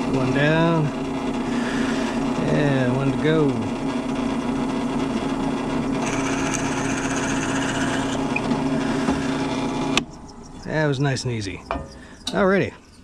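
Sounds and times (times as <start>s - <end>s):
drill bit cutting: 0.0s - 13.0s
drill press motor hum: 0.0s - 13.0s.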